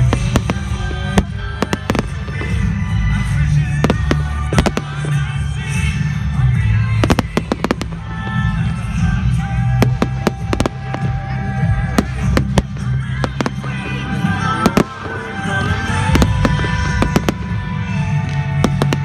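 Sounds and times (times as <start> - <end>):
fireworks bursting: 0.0 - 19.0
music playing: 0.0 - 19.0.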